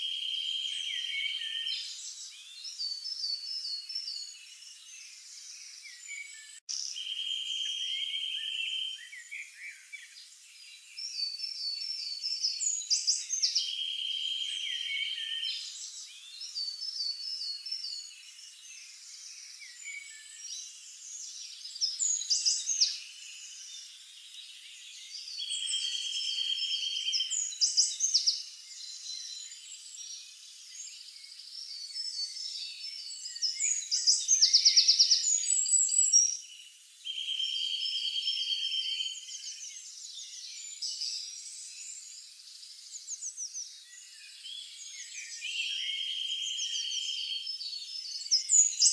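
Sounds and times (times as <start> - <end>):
songbirds singing: 0.0 - 48.9.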